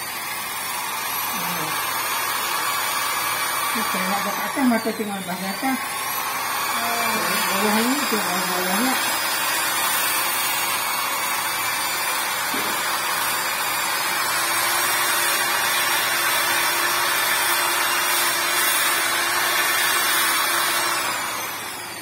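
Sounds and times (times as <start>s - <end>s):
power tool sanding wood: 0.0s - 22.0s.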